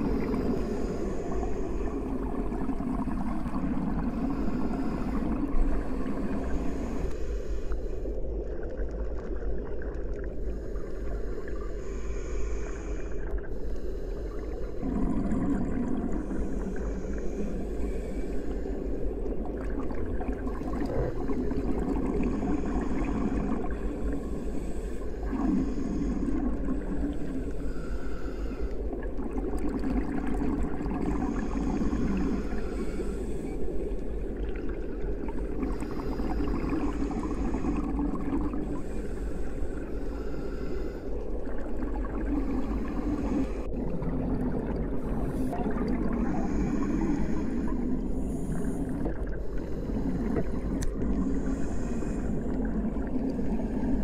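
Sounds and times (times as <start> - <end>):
underwater water rumble: 0.0 - 54.0.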